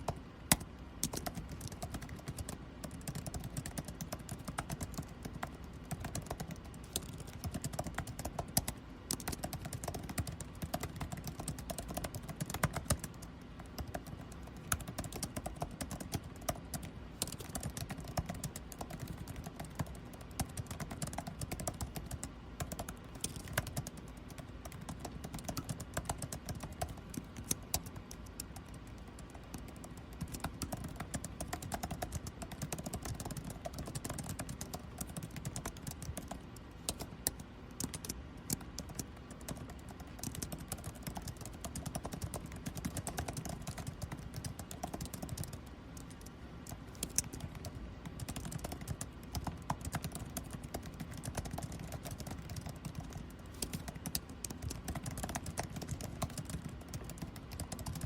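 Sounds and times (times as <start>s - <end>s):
air conditioning hum: 0.0s - 58.0s
typing on computer keyboard: 0.0s - 58.0s.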